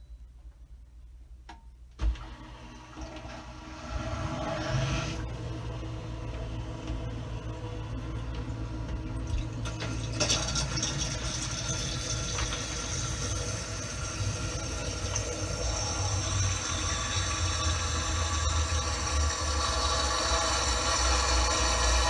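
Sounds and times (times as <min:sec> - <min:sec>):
dishwasher motor hum: 0:02.0 - 0:22.0.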